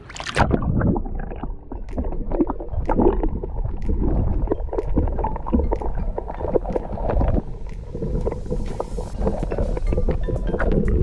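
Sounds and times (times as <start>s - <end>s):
muffled underwater churning: 0.0s - 11.0s.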